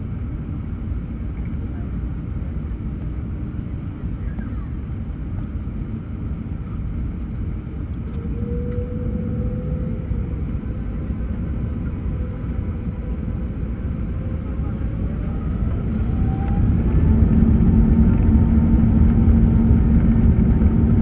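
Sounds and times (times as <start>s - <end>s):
jet engine whine: 0.0s - 21.0s
jet engines rumbling in cabin: 0.0s - 21.0s.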